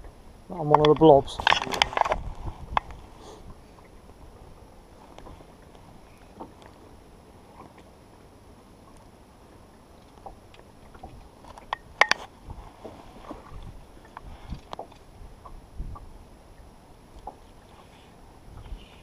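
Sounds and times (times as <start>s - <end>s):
water lapping at boat hull: 0.0s - 19.0s.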